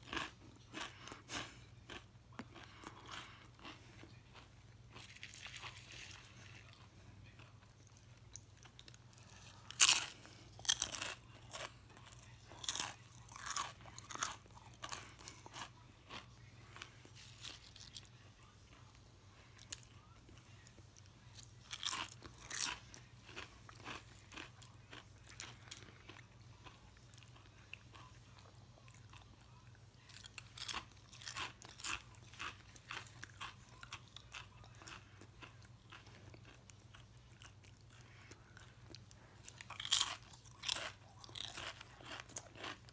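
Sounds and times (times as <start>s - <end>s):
crunching and chewing chips: 0.0s - 42.9s.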